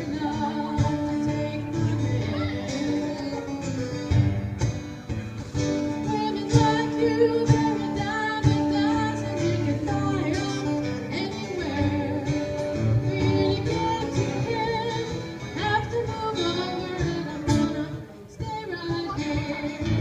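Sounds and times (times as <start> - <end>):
woman singing: 0.0 - 4.1, 5.8 - 20.0
strummed acoustic guitars: 0.0 - 20.0.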